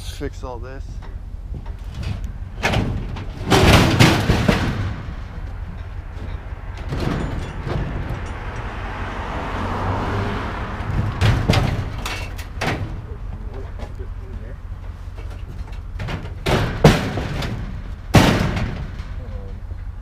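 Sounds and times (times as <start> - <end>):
scrap metal banging and clanking: 0.9 - 9.6, 10.6 - 19.9.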